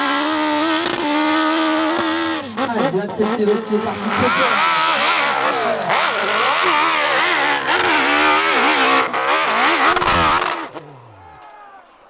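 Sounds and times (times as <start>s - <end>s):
motorcycle engine revving hard: 0.0s - 11.3s.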